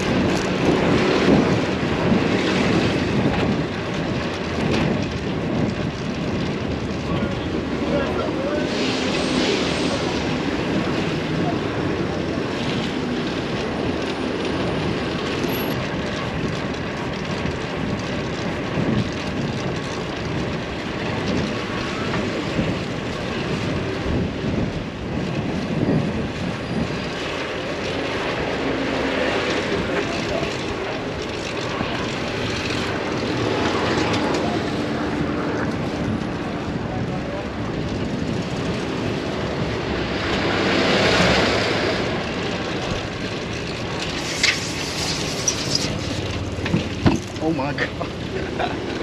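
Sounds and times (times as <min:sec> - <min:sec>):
traffic engines running: 0:00.0 - 0:49.0
wind and road noise: 0:00.0 - 0:49.0.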